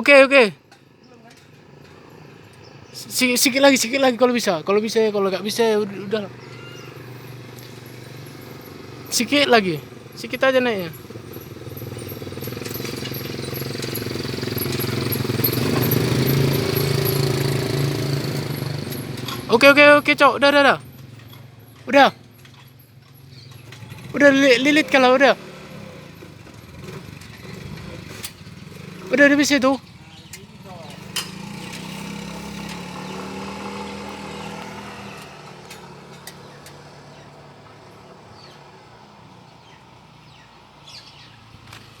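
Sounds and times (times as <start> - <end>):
motorcycle engine running: 2.7 - 37.2.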